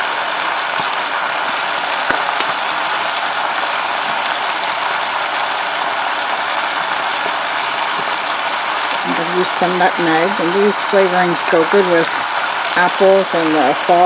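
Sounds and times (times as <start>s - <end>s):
chicken sizzling in pot: 0.0s - 14.0s.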